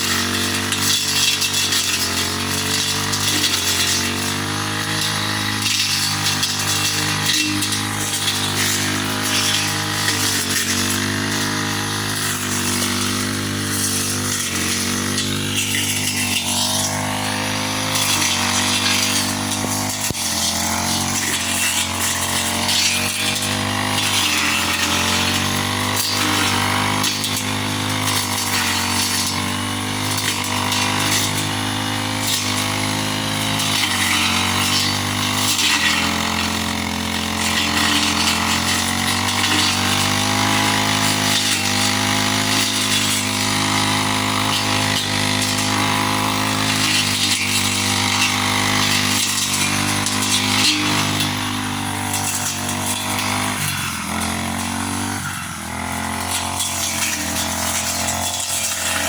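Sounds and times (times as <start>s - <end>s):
grass cutter engine running: 0.0s - 59.0s.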